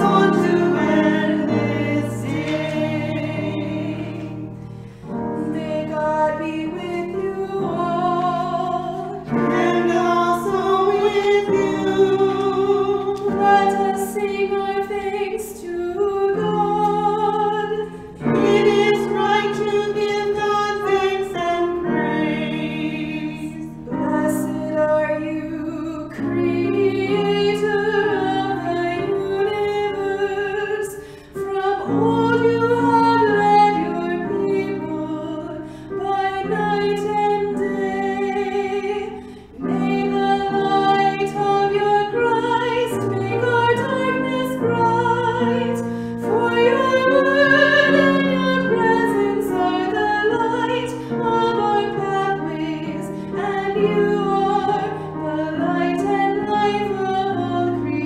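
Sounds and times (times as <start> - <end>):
woman singing a hymn: 0.0 - 58.0.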